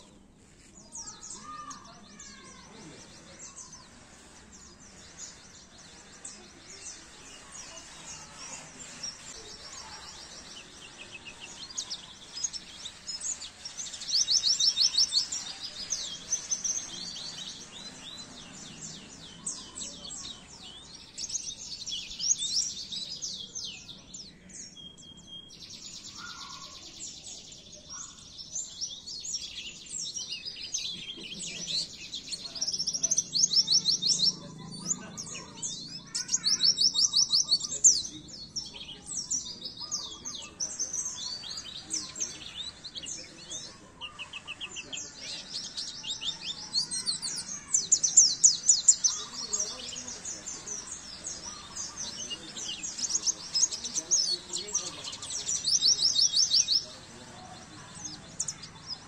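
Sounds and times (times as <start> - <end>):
bird twittering song: 0.8 - 59.0.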